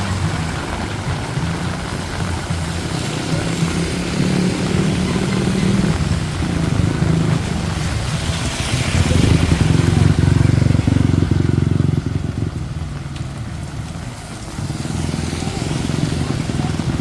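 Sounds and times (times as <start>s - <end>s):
heavy rain hissing: 0.0s - 17.0s
vehicle engine running: 0.0s - 17.0s.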